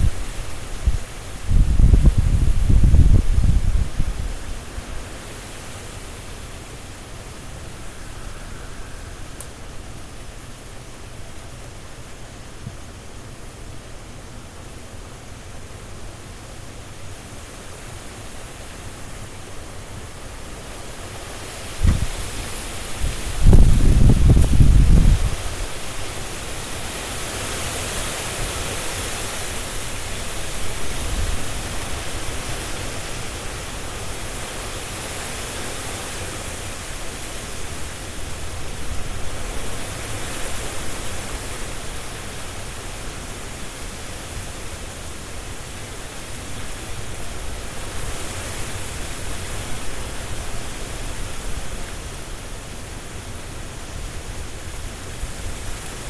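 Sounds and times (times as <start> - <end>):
strong wind rustling leaves: 0.0 - 56.0.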